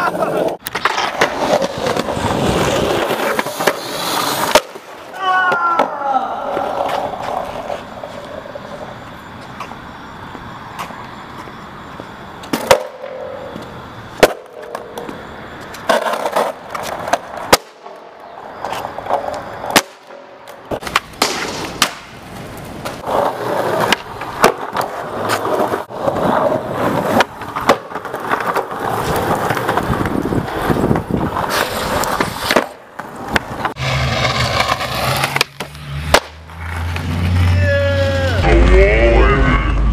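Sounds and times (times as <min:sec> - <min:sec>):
skateboard wooden clacks: 0:00.0 - 0:09.8, 0:12.4 - 0:37.2
skateboard wheels rolling on concrete: 0:00.0 - 0:39.9.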